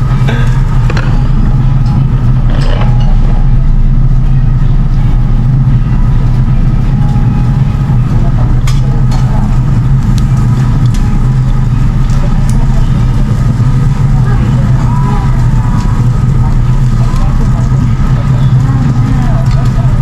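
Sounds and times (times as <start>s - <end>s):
extraction fan humming: 0.0s - 20.0s.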